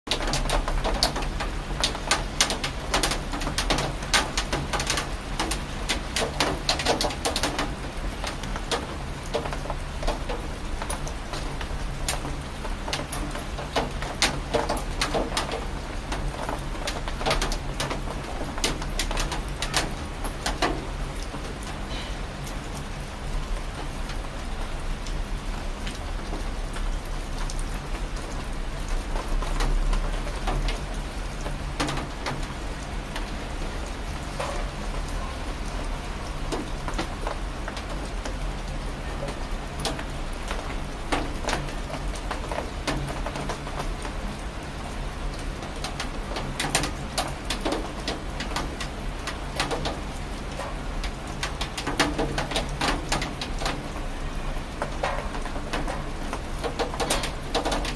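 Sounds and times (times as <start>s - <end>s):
rain falling: 0.1s - 57.9s
raindrops clicking on a surface: 0.1s - 57.9s.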